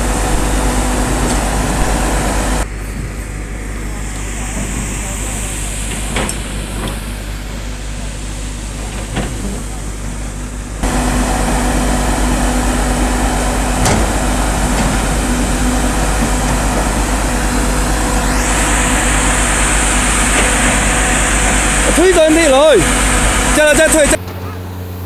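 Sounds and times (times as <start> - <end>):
fog cannon fan rushing: 0.0 - 25.0
machinery hum: 0.0 - 25.0
rising whine and high hiss: 0.0 - 25.0.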